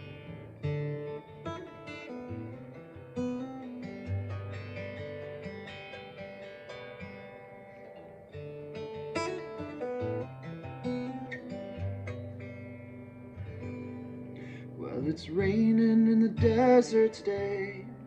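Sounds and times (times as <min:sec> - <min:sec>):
acoustic guitar strummed chords: 0:00.0 - 0:18.0.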